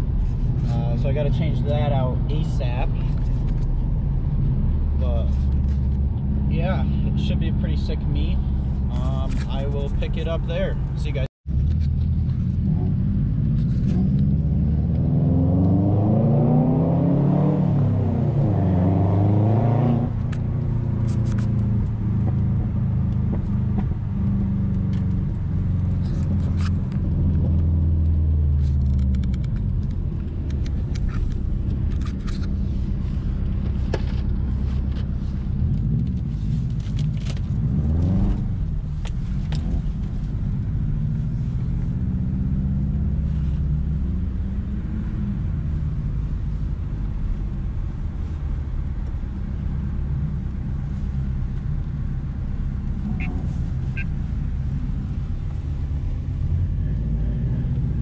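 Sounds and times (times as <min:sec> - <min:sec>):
car engine: 0:00.0 - 0:58.0
road rumble: 0:00.0 - 0:58.0.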